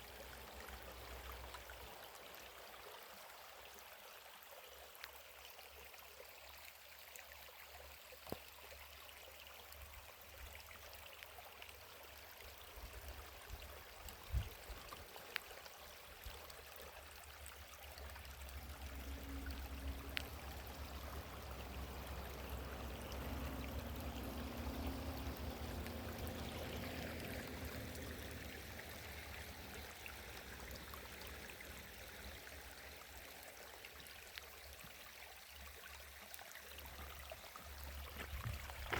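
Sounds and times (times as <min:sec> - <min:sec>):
faint running water: 0:00.0 - 0:38.9.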